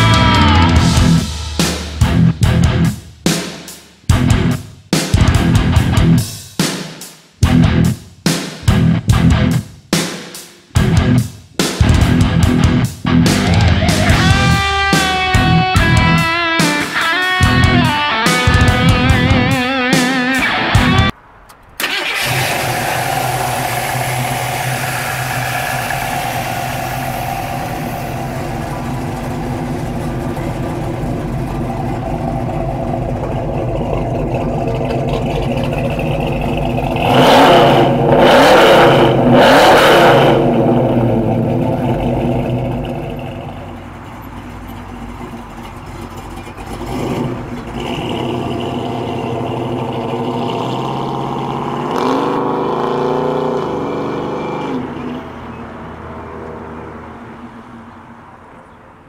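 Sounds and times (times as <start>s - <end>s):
car engine idling: 0.0s - 3.3s, 11.8s - 19.9s, 20.6s - 59.0s
engine revving: 0.0s - 3.5s, 10.8s - 21.2s, 21.8s - 57.2s.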